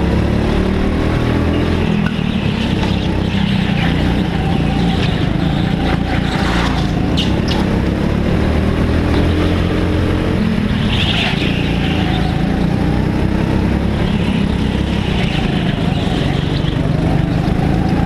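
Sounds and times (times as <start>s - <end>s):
go-kart engines racing: 0.0s - 18.0s.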